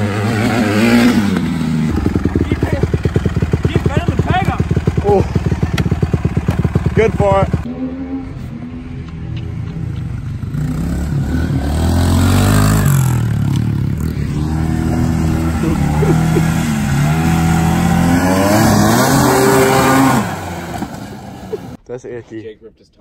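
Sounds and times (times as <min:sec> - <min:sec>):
snowmobile engine revving: 0:00.0 - 0:08.9, 0:10.5 - 0:21.8.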